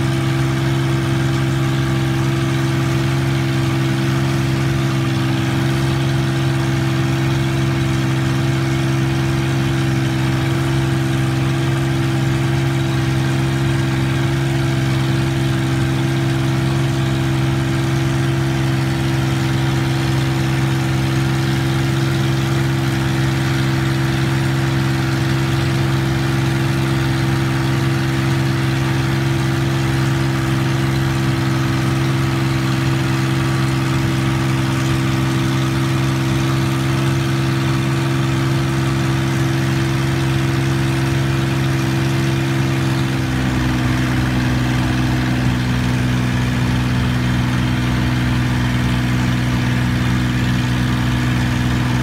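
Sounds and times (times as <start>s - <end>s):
boat engine running: 0.0s - 52.0s
deeper engine rumble: 0.0s - 52.0s.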